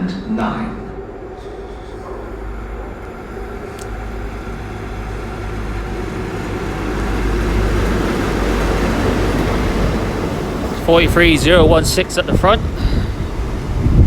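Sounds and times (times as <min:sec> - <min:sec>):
diesel train rumble: 0:00.0 - 0:14.0.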